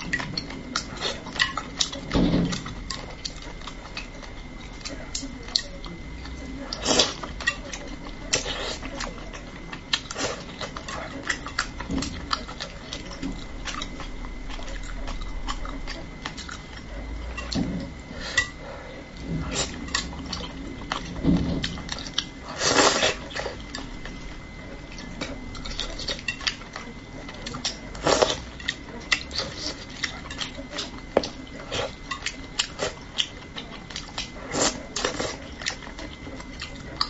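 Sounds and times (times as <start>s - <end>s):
chewing and mouth noises: 0.0s - 37.0s.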